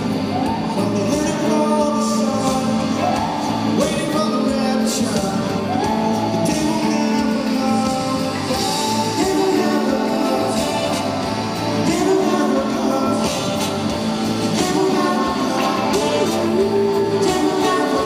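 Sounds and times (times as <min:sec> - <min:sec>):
live rock band playing: 0:00.0 - 0:18.0
person singing lead vocal: 0:00.0 - 0:18.0.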